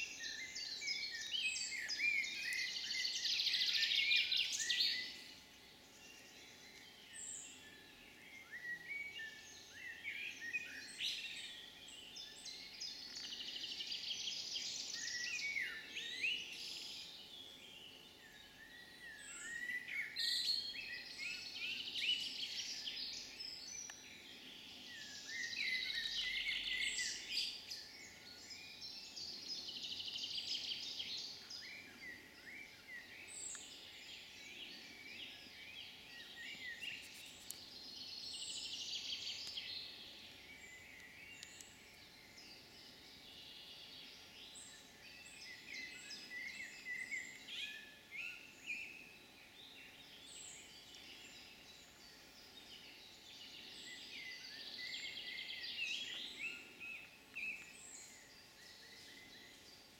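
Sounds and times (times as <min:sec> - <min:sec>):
faint steady background noise: 0:00.0 - 0:59.9
songbirds chirping and warbling: 0:00.0 - 0:59.9.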